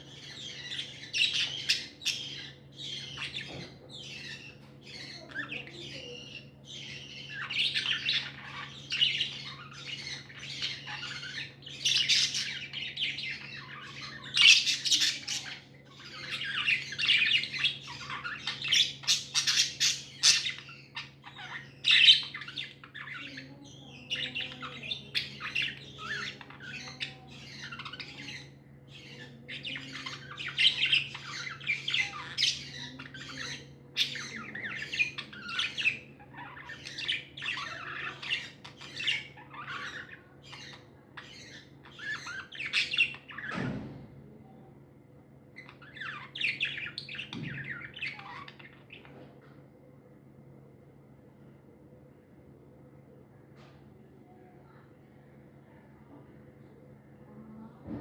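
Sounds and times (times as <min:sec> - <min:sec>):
budgerigars chirping: 0:00.0 - 0:43.7, 0:45.6 - 0:49.0
faint low hum: 0:00.0 - 0:58.0.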